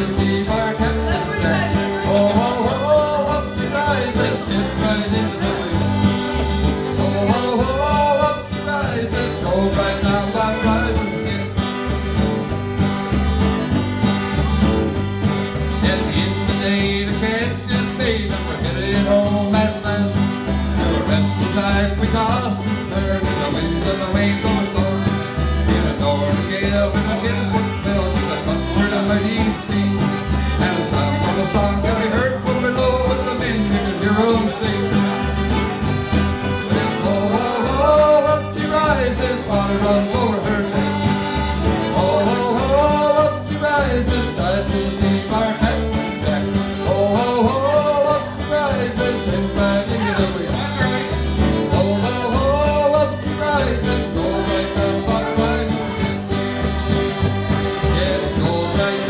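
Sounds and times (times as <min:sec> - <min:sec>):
acoustic guitar: 0:00.0 - 0:59.0
button accordion: 0:00.0 - 0:59.0
electric bass: 0:00.0 - 0:59.0.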